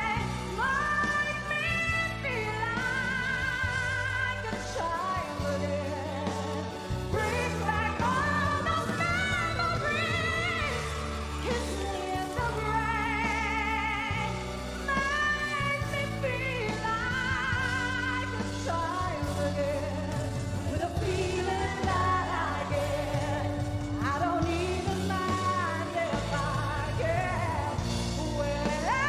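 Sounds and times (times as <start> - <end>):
band accompaniment with bass: 0.0 - 29.0
woman singing pop ballad: 0.0 - 29.0.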